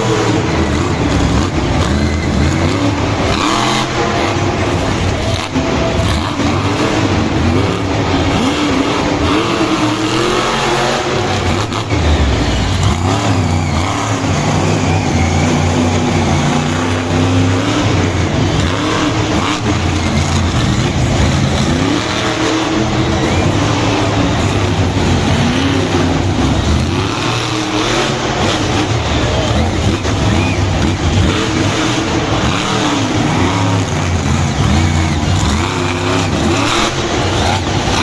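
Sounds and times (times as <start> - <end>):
constant background roar: 0.0 - 38.0
monster truck engine revving: 0.0 - 38.0.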